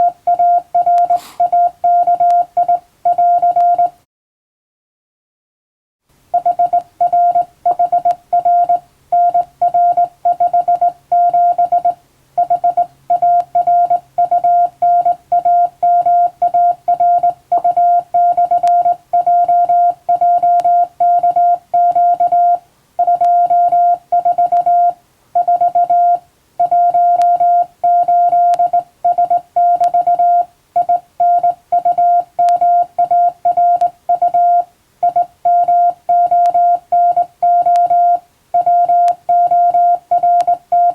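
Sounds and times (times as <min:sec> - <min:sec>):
morse code beeps: 0:00.0 - 0:04.0, 0:06.4 - 0:40.9.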